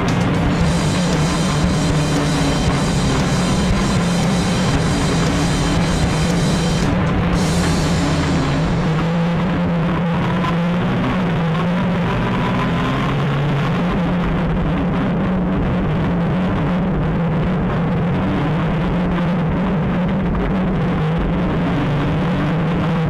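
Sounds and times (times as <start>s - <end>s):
engine revving under load: 0.0s - 23.0s
steady rushing noise: 0.0s - 23.0s.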